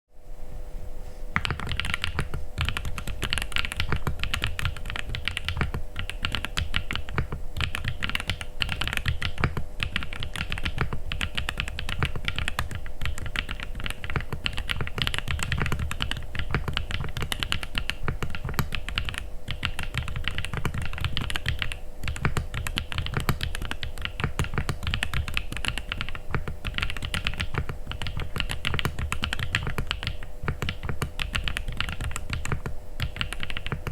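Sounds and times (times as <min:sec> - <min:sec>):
fast typing on mechanical keyboard: 0:01.4 - 0:33.9.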